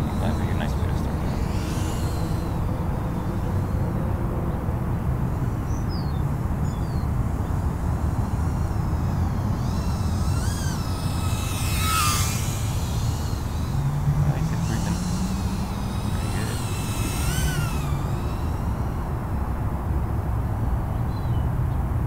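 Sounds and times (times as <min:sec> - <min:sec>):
drone motor whine: 0:00.0 - 0:22.0.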